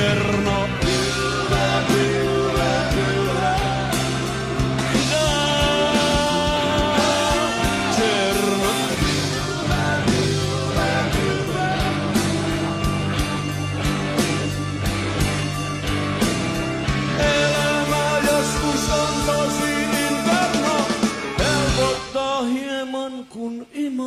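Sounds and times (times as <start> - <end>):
rock band playing: 0.0 - 22.7
wavering lead melody: 0.8 - 22.0.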